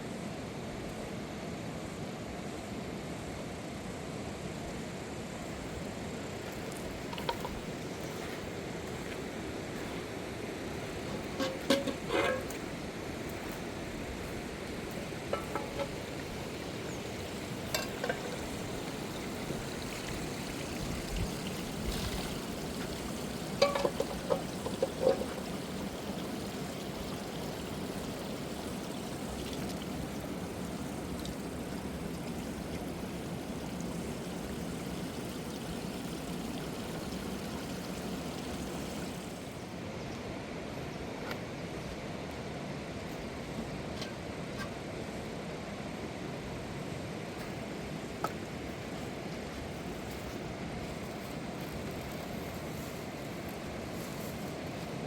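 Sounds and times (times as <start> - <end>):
stream rushing: 0.5 - 55.0.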